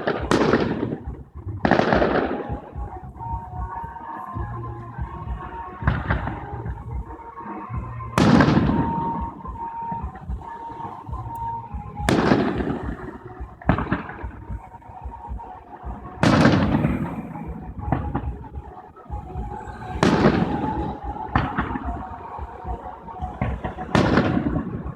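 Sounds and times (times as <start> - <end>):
fireworks booming: 0.0 - 3.9, 5.0 - 24.9.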